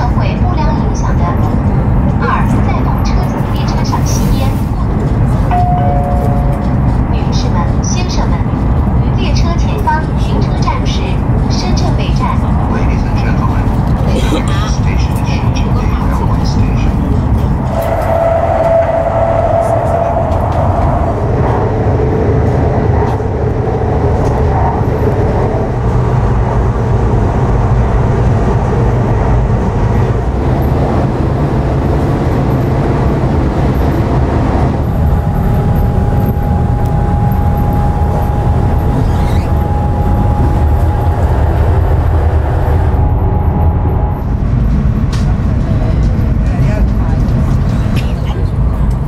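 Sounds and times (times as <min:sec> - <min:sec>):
train running rumble: 0:00.0 - 0:49.0.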